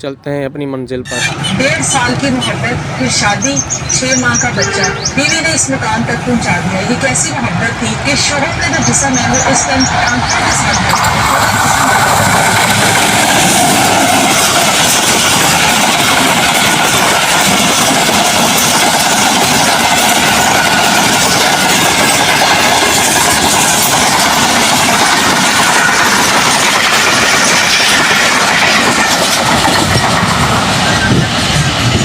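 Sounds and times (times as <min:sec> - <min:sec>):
train wheels on tracks: 0:01.0 - 0:32.0.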